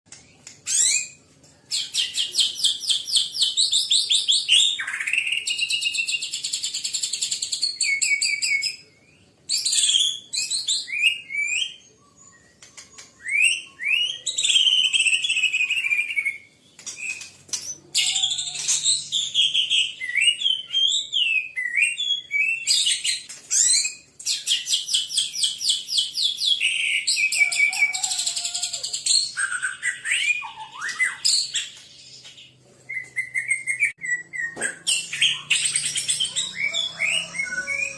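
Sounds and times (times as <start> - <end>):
bird singing: 0.1 - 37.9.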